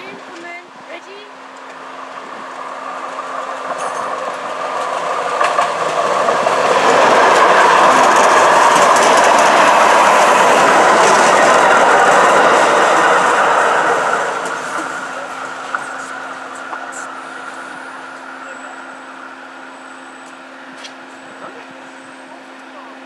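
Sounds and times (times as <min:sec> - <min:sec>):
train running past: 0:00.0 - 0:23.0.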